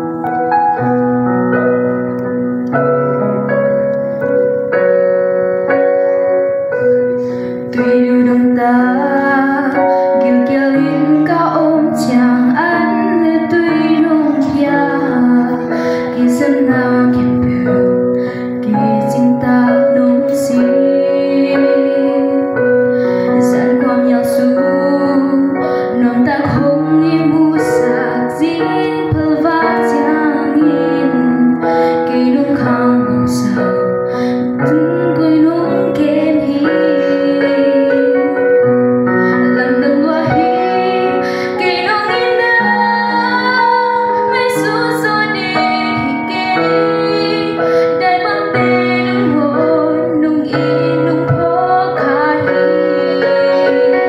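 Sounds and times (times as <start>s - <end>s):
keyboard held chords: 0.0s - 54.0s
girl singing into microphone: 5.6s - 54.0s.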